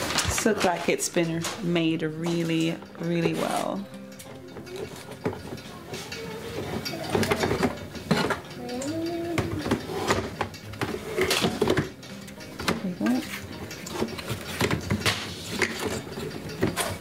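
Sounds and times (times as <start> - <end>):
plastic frame clicking and rattling: 0.0 - 17.0.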